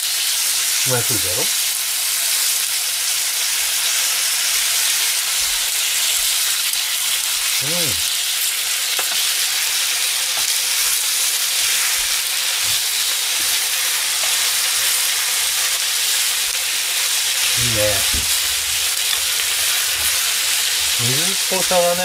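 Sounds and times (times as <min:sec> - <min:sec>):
vegetables sizzling in frying pan: 0:00.0 - 0:22.0.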